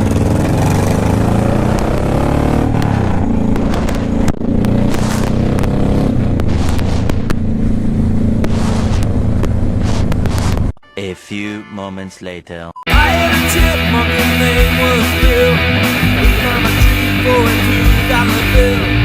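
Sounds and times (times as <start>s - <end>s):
motorcycle engine accelerating: 0.0s - 10.7s, 13.0s - 19.0s.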